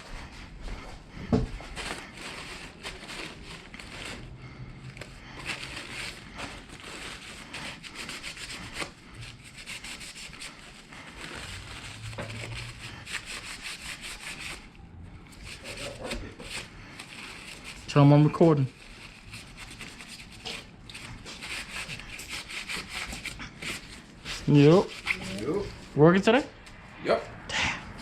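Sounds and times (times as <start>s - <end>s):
rag wiping: 0.0s - 26.4s.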